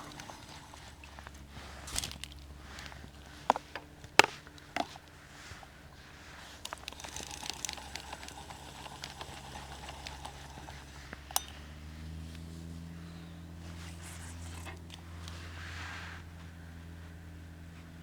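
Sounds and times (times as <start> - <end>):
light rattling and rustling: 0.0 - 18.0
low steady hum: 0.0 - 18.0.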